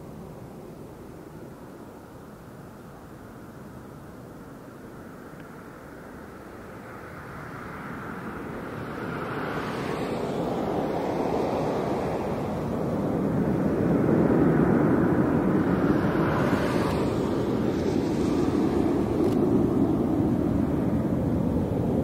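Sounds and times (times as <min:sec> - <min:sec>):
jet engine rumble on takeoff: 0:00.0 - 0:22.0.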